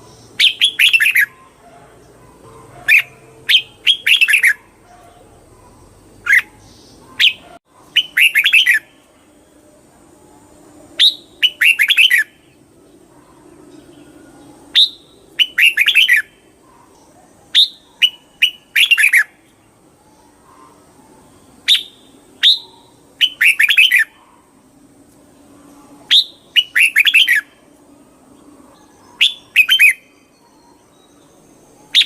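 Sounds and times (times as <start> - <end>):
bird singing: 0.0 - 32.0.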